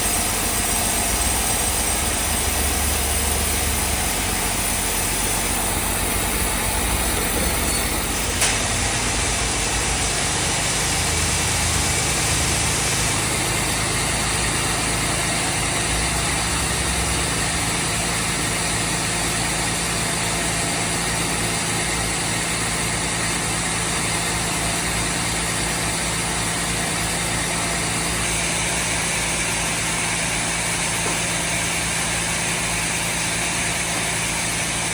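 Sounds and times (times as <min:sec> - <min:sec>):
machine engine running: 0:00.0 - 0:34.9.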